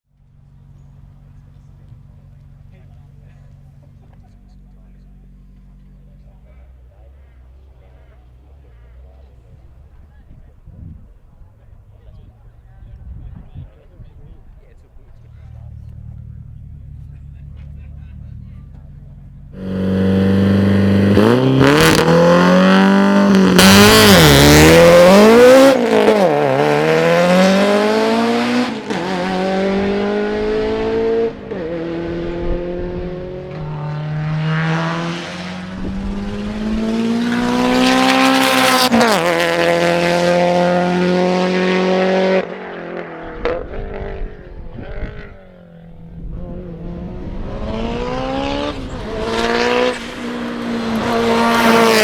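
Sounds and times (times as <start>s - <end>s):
car engine accelerating: 0.2s - 52.0s.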